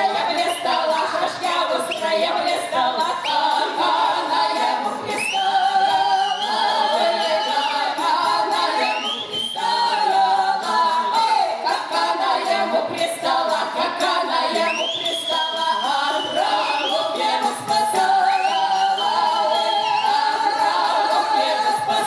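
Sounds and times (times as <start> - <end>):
women singing in close harmony: 0.0 - 22.0.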